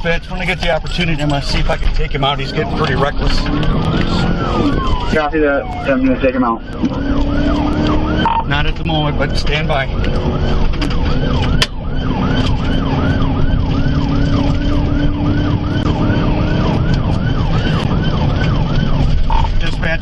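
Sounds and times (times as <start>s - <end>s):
engine and road noise: 0.0s - 20.0s
police siren yelping: 0.7s - 20.0s.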